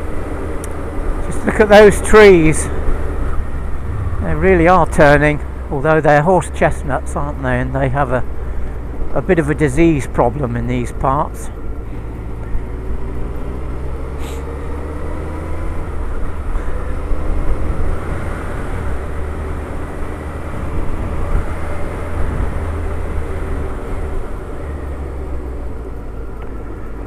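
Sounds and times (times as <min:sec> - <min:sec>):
motorcycle engine rumble: 0:00.0 - 0:27.0
wind and road noise: 0:00.0 - 0:27.0.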